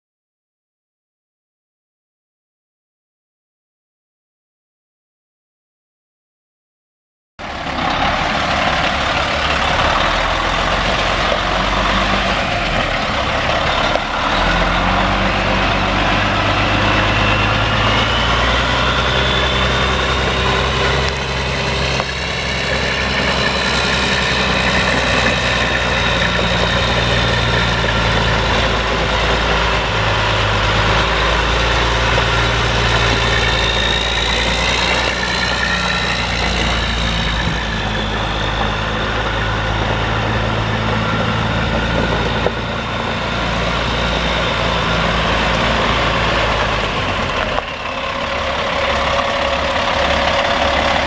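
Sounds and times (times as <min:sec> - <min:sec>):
diesel truck engine idling: 0:07.4 - 0:51.0.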